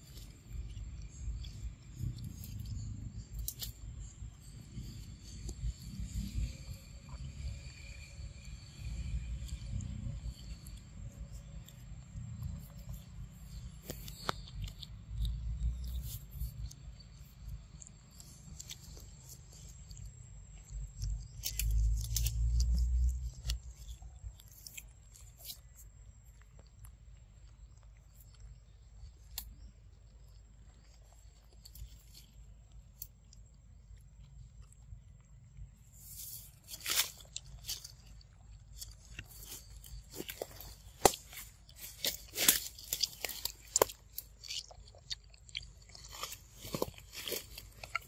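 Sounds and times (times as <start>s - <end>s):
monkey biting and chewing: 0.0s - 7.7s, 8.6s - 29.6s, 30.3s - 48.0s.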